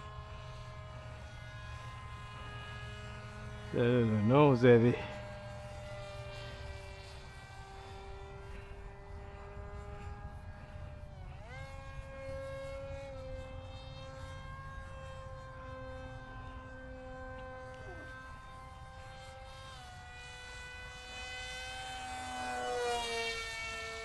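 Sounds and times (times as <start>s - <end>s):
small electric motor humming: 0.0s - 24.0s.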